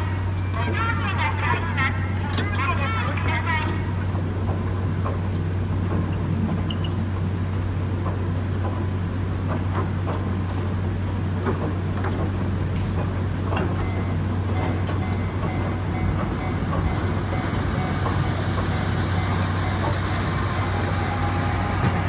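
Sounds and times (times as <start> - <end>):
train rumbling over rails: 0.0 - 22.0
wheels clicking on rails: 1.4 - 22.0.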